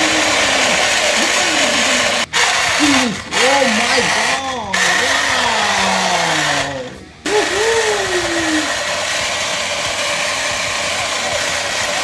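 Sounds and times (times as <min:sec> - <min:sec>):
toy machine gun buzzing: 0:00.0 - 0:12.0.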